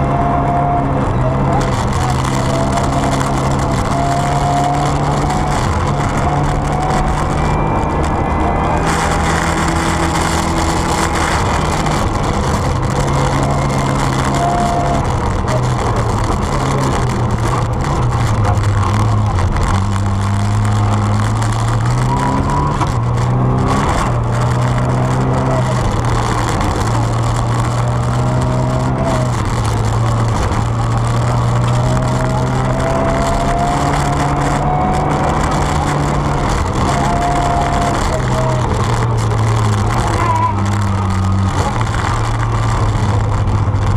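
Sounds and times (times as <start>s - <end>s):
rally car engine revving: 0.0s - 43.9s
tyre and road noise: 0.0s - 43.9s.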